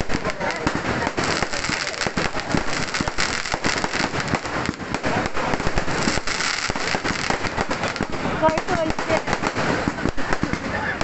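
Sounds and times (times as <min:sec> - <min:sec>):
firecrackers popping: 0:00.0 - 0:11.0.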